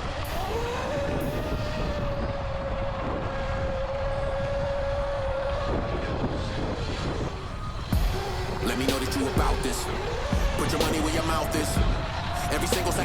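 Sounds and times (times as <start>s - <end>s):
low rumble: 0.6s - 13.0s.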